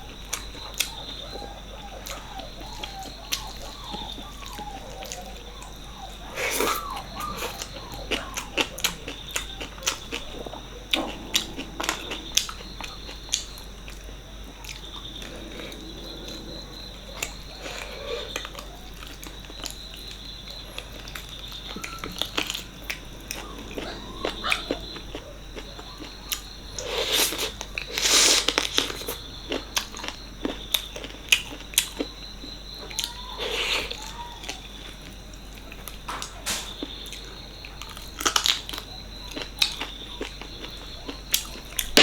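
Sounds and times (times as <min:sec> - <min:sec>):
person chewing food: 0:00.0 - 0:42.0.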